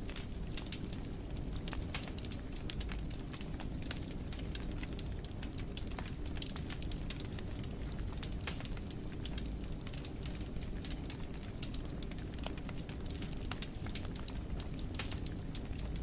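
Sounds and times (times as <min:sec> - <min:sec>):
fire snapping and popping: 0:00.0 - 0:16.0
low rumble of flames: 0:00.0 - 0:16.0.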